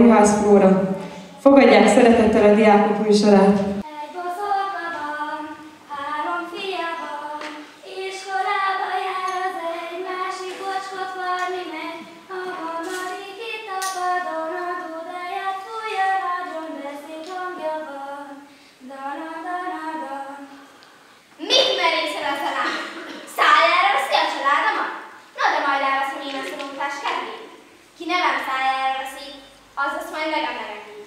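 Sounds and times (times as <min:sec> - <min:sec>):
girl singing unaccompanied: 0:03.8 - 0:20.8, 0:21.4 - 0:31.0.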